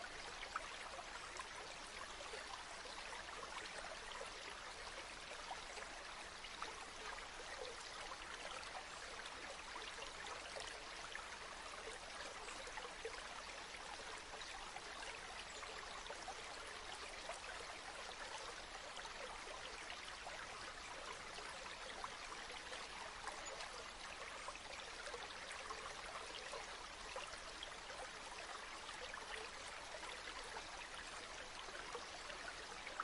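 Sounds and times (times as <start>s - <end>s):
river water flowing: 0.0s - 33.0s.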